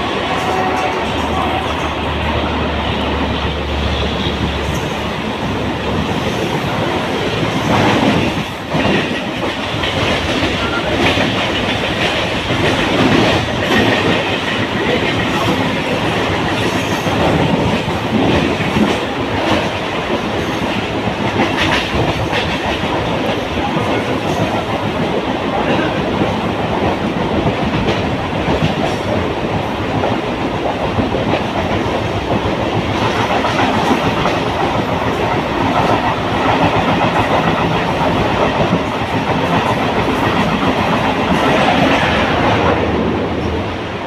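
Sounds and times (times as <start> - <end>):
clickety-clack over rail joints: 0.0 - 44.0
passing train: 0.0 - 44.0
train wheels rumbling on rail: 0.0 - 44.0.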